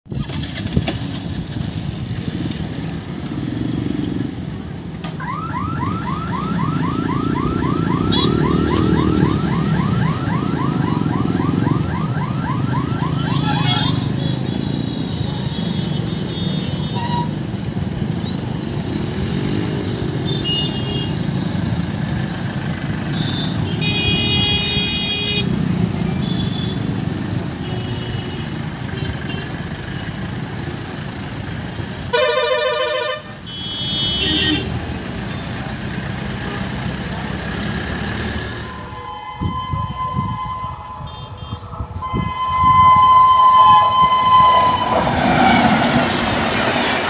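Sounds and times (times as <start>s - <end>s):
motorcycle engines idling and pulling away: 0.1s - 32.1s, 33.2s - 39.7s, 43.9s - 47.0s.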